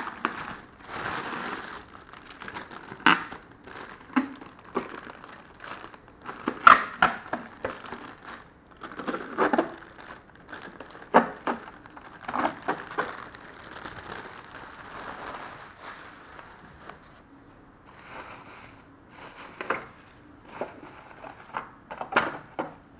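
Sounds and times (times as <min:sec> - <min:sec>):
plastic wrapping crinkling: 0:00.0 - 0:17.2, 0:17.9 - 0:21.6.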